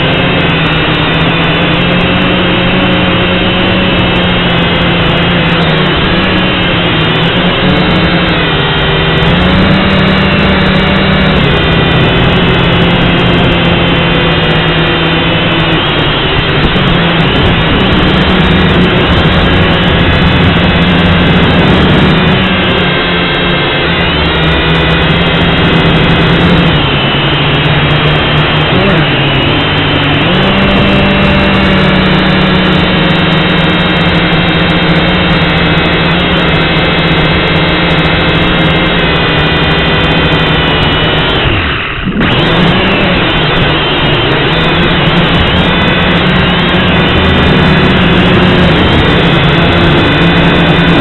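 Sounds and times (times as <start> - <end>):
toy drone propellers whining: 0.0 - 51.0.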